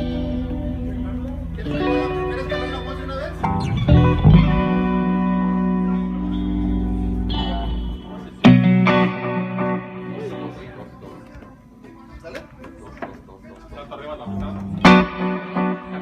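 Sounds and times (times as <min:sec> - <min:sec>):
amplified guitar notes and chords: 0:00.0 - 0:11.4, 0:14.3 - 0:16.0.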